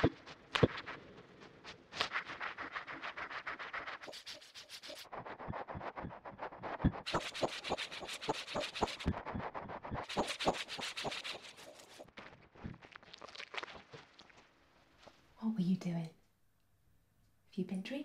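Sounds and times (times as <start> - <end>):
rapid scratching and rubbing: 0.0 - 14.4.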